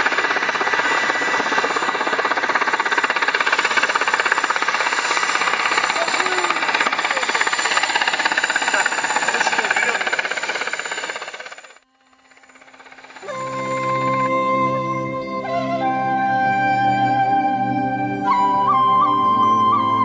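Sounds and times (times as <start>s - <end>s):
motor running with fast pulsing: 0.0s - 16.4s.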